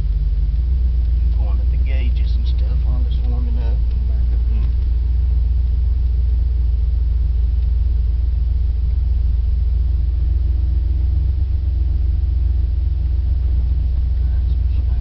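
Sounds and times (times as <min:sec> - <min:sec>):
pickup truck engine rumble: 0:00.0 - 0:15.0.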